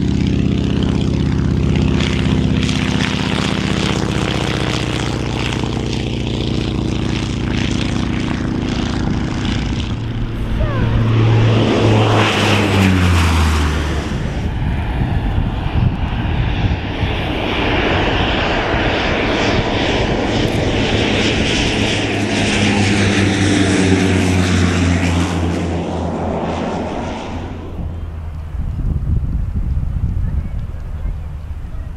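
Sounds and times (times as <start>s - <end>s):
propeller plane flying past: 0.0s - 31.9s.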